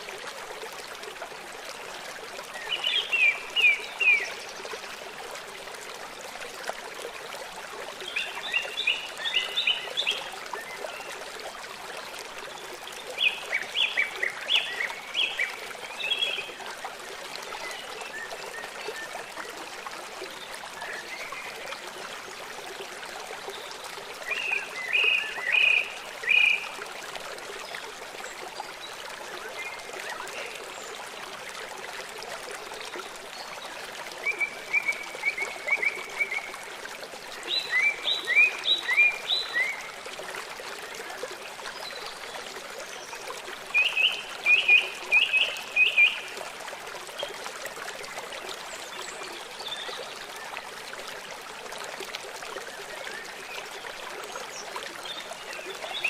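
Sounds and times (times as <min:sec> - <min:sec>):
flowing stream: 0:00.0 - 0:56.0.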